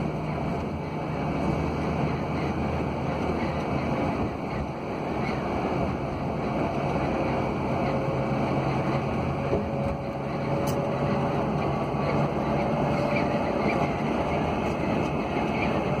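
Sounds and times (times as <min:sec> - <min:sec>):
vehicle road noise and engine hum: 0:00.0 - 0:16.0.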